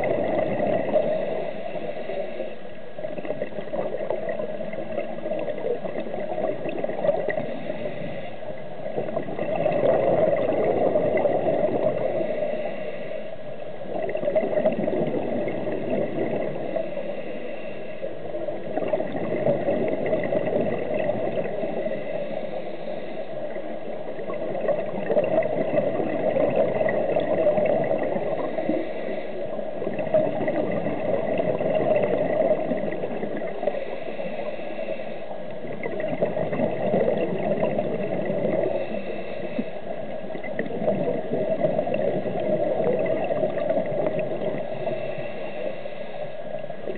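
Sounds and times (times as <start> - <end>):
faint steady tone: 0.0 - 46.9
underwater diver breathing bubbles: 0.0 - 46.9.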